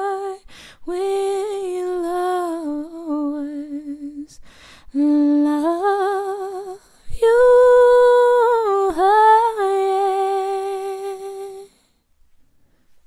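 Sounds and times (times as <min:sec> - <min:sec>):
woman singing: 0:00.0 - 0:11.9.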